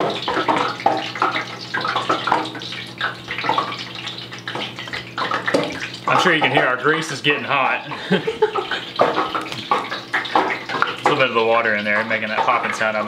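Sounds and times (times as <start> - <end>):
grease sizzling and popping: 0.0 - 13.0.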